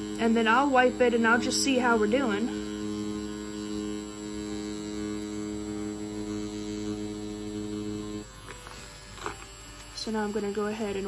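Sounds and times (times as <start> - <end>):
tattoo machine humming: 0.0 - 11.0.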